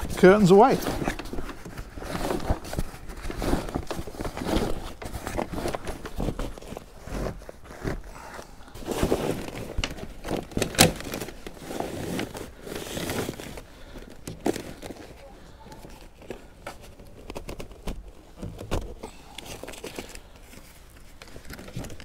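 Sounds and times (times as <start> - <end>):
canvas and vinyl rustling: 0.0 - 22.0.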